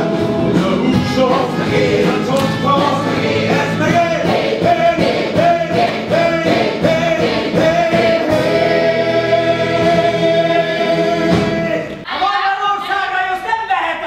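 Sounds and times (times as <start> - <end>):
rock band playing: 0.0 - 11.8
voices singing together: 0.0 - 12.6.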